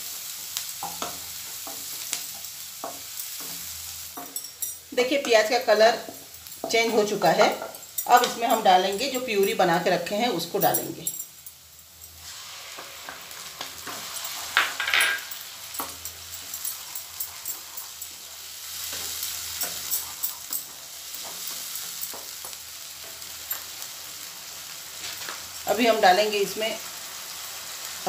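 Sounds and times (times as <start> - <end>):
paste sizzling in hot oil: 0.0 - 10.5, 11.3 - 28.0.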